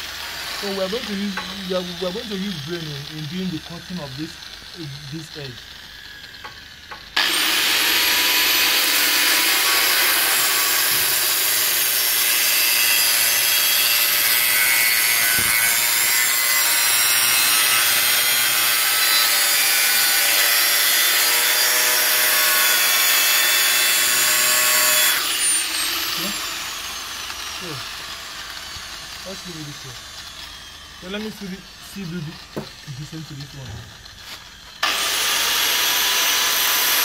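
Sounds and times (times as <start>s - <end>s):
angle grinder cutting sheet metal: 0.0s - 37.0s.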